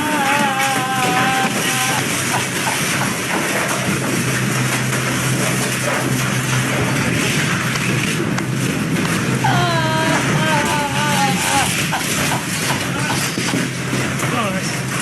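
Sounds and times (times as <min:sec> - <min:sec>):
demolition din: 0:00.0 - 0:15.0
excavator engine hum: 0:00.0 - 0:15.0.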